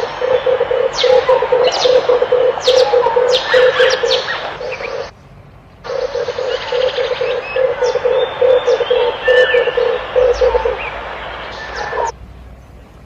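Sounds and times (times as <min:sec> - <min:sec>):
dove cooing: 0:00.0 - 0:05.1, 0:05.9 - 0:12.1
small birds chirping: 0:00.0 - 0:05.1, 0:05.7 - 0:12.1.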